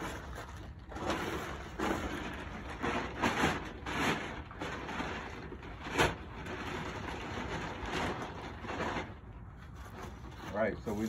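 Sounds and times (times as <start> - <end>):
sharp tarp crack: 0.0 - 9.2
plastic tarp rustling and crinkling: 0.0 - 11.0.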